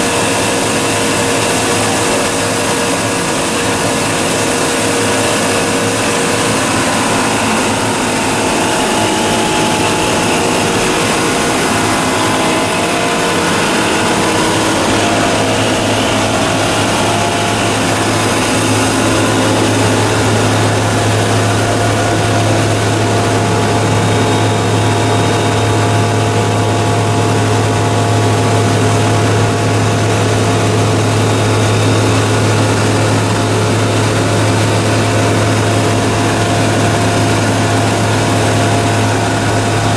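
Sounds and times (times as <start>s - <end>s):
extruder machine drone: 0.0s - 39.9s
whining machine tones: 0.0s - 39.9s.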